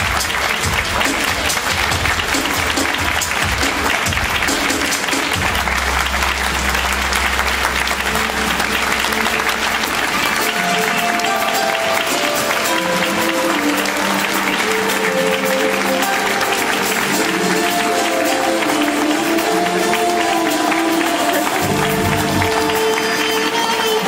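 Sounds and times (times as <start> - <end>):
audience applauding: 0.0 - 24.0
background music: 0.0 - 24.0.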